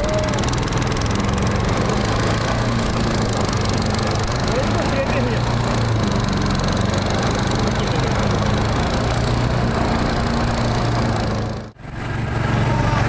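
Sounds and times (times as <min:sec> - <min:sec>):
mud motor running: 0:00.0 - 0:13.0.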